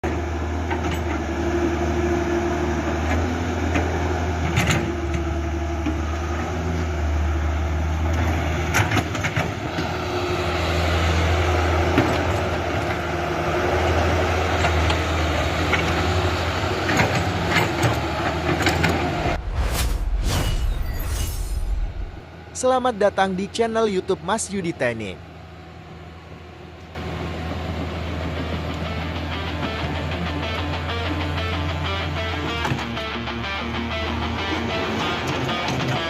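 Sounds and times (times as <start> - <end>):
excavator engine running: 0.1 - 36.0.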